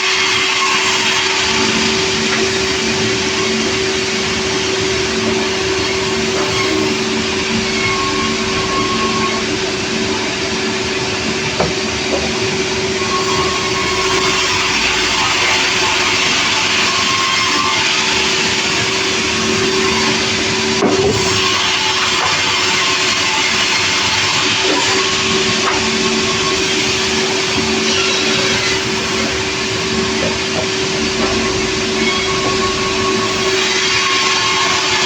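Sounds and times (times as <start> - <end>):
sawmill machinery running: 0.0 - 35.0.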